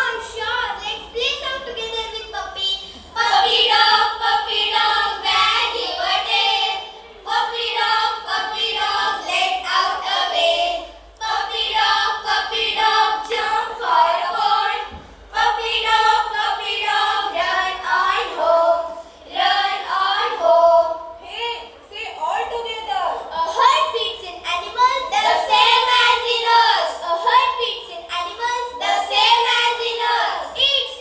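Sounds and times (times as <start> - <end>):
children singing together: 2.4 - 21.2, 23.3 - 31.0.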